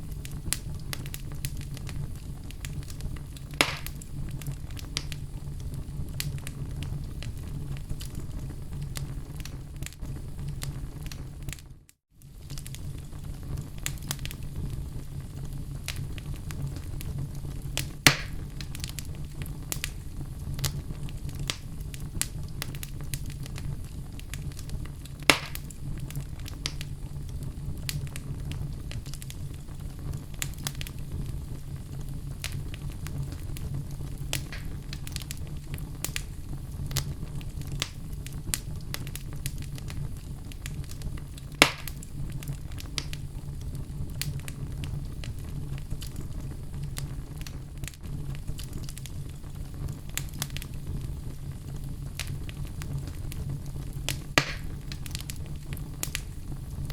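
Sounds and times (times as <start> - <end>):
sharp fire pops: 0.0 - 56.9
wood fire crackling: 0.0 - 56.9.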